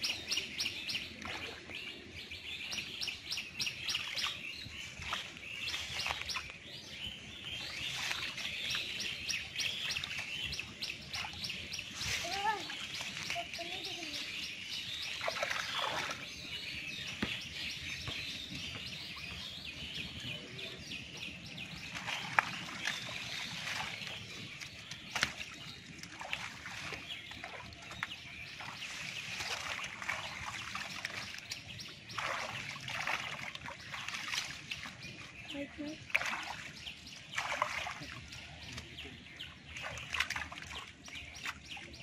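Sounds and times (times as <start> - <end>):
muddy water splashing: 0.0 - 18.2, 21.0 - 42.0
birds chirping: 0.0 - 42.0.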